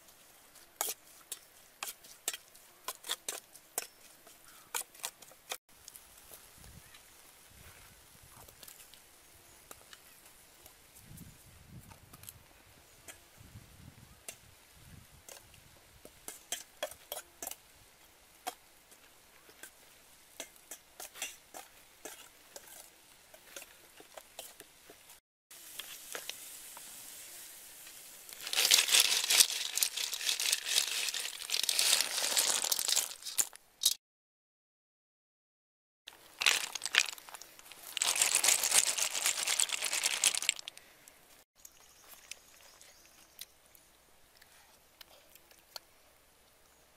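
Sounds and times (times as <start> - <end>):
leaves rustling over a wok: 0.0 - 33.6, 36.1 - 43.3.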